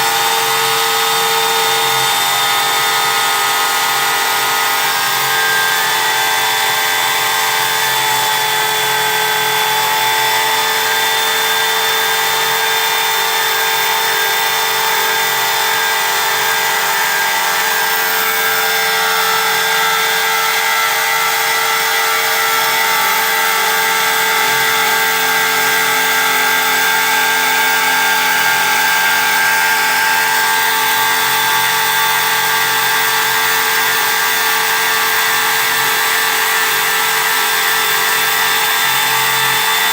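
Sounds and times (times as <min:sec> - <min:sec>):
cnc machine whining: 0:00.0 - 0:39.9.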